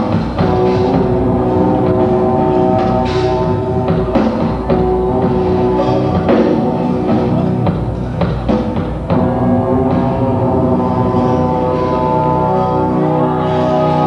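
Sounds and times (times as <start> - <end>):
drum kit hits: 0.0 - 12.4
live rock band playing: 0.0 - 14.0.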